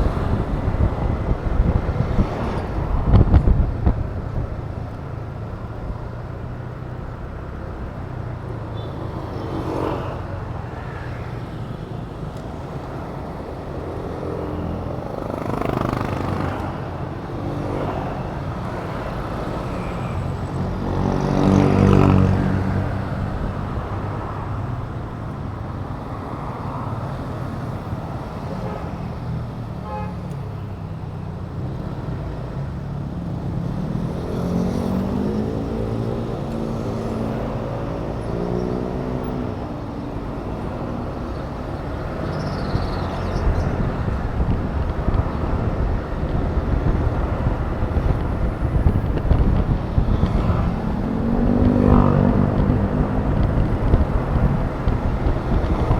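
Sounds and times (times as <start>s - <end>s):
road noise: 0.0s - 55.9s
vehicles passing close by: 0.0s - 55.9s.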